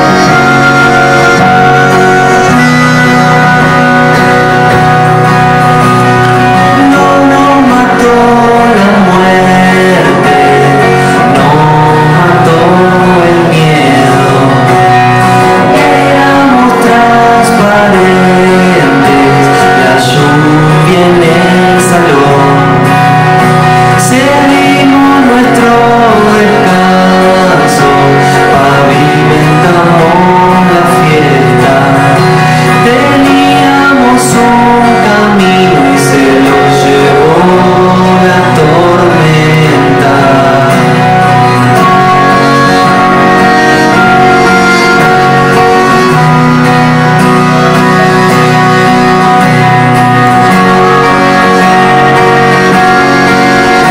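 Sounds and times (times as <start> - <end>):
man singing: 0.0 - 53.9
second guitar: 0.0 - 53.9
strummed acoustic guitar: 0.0 - 53.9.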